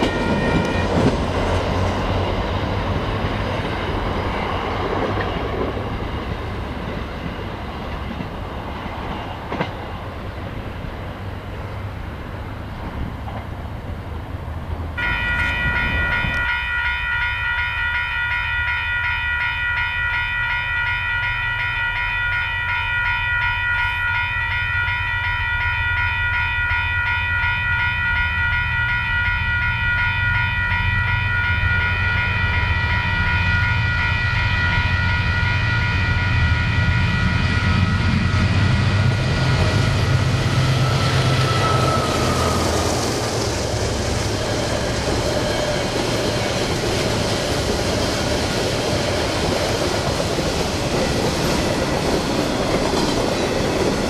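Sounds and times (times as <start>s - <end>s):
level-crossing alarm bell ringing: 0.0s - 4.9s, 15.0s - 54.0s
diesel locomotive engine rumble: 0.0s - 54.0s
train carriages rolling on rails: 0.0s - 54.0s.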